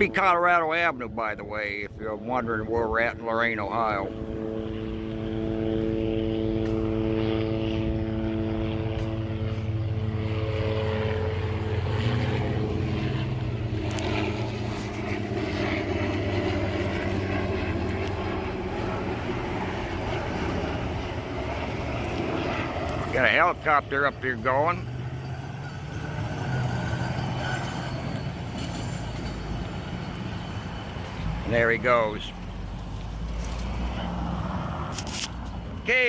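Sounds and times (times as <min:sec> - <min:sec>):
helicopter engine and rotor drone: 0:00.0 - 0:36.0.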